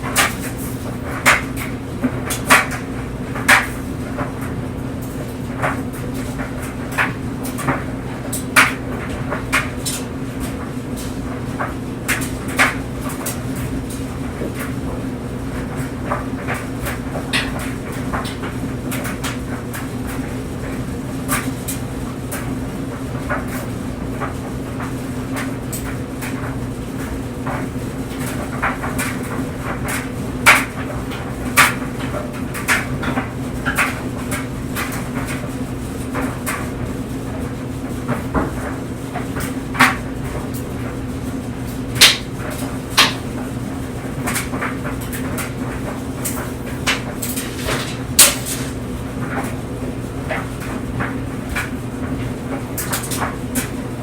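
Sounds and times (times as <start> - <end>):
clothes dryer humming: 0.0 - 54.0
clothes knocking in dryer drum: 0.0 - 54.0.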